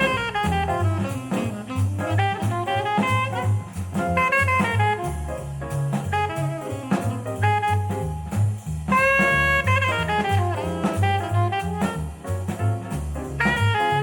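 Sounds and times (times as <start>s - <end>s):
drum kit: 0.0s - 14.0s
jazz horn melody: 0.0s - 14.0s
stepping bass line: 0.0s - 14.0s.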